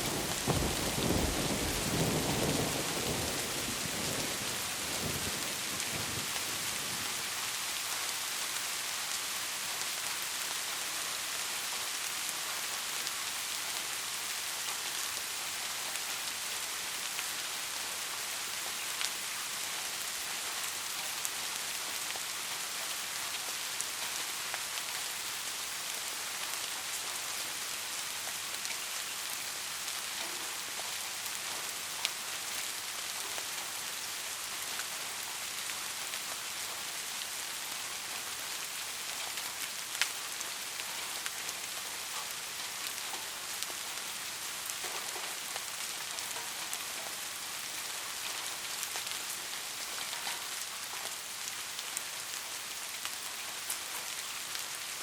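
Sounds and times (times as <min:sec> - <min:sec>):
rain hissing: 0:00.0 - 0:55.0.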